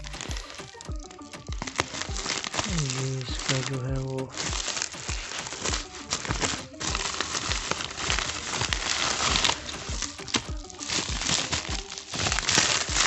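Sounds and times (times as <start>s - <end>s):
background music with low beat: 0.0s - 13.0s.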